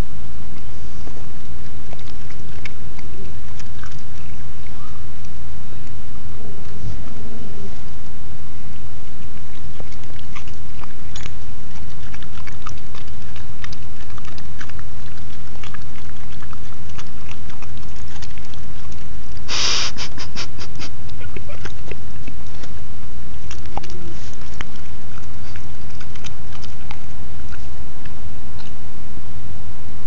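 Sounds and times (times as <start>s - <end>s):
puppy chewing clicks: 1.6s - 6.0s, 8.7s - 28.9s.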